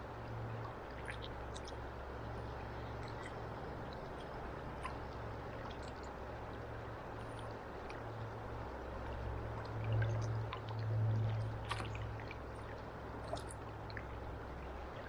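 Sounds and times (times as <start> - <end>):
faint water ticks: 0.0 - 15.0
river current flowing: 0.0 - 15.0.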